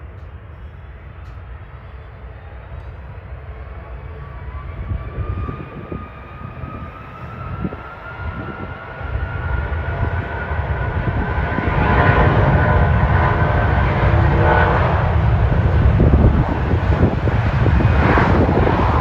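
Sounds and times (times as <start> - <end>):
aircraft engines whining: 0.0 - 19.0
low rumble: 0.0 - 19.0.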